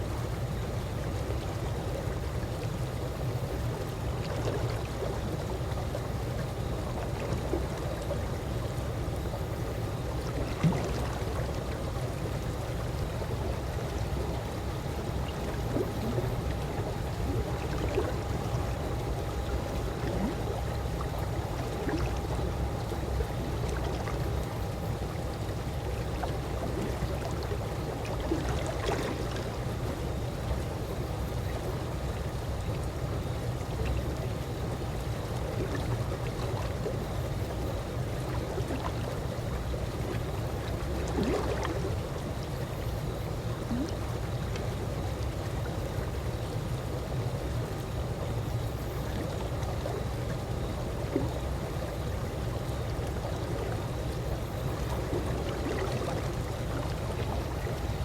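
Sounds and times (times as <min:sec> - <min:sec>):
pool water lapping and trickling: 0:00.0 - 0:58.0
small water splashes: 0:03.4 - 0:47.2, 0:48.7 - 0:58.0.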